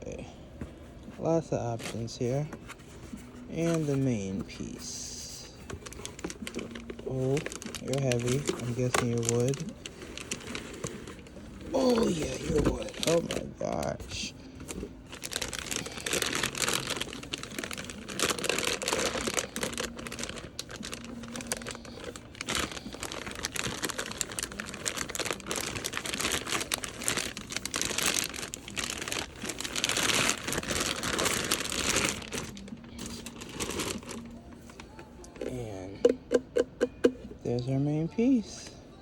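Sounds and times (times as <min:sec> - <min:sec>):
packaging crinkling: 0:01.6 - 0:35.7.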